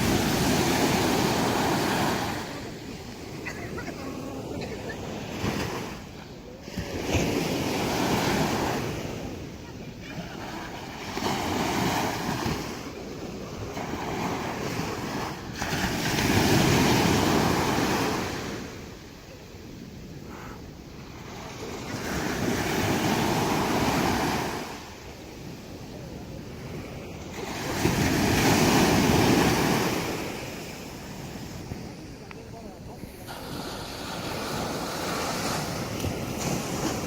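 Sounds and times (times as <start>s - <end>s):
waves breaking on sandy beach: 0.0s - 37.0s.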